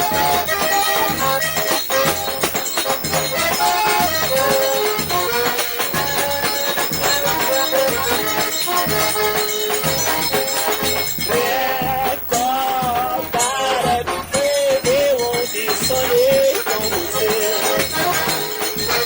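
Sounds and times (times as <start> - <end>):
accordion melody: 0.0 - 19.0
percussion beat: 0.0 - 19.0.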